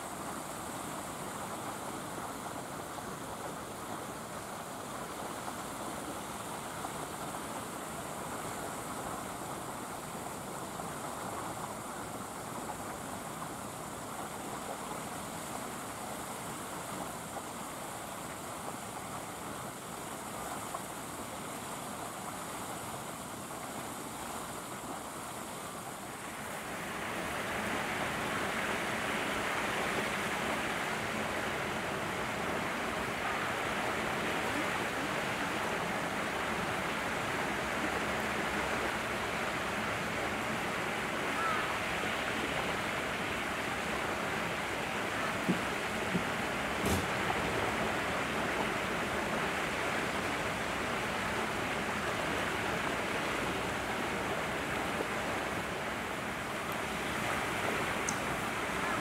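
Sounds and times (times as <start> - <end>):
waterfall rushing over wall: 0.0 - 59.0.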